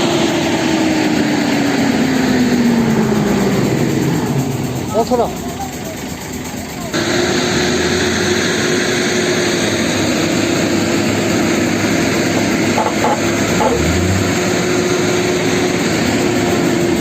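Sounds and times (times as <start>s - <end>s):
heavy diesel engine drone: 0.0s - 17.0s.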